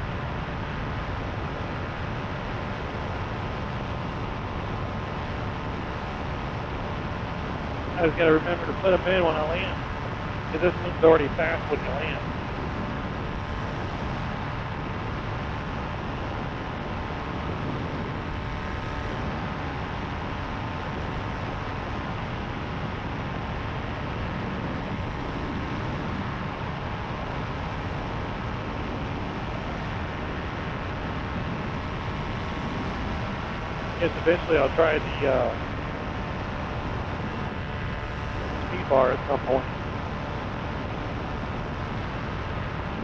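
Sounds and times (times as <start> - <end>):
paramotor engine droning: 0.0 - 43.0.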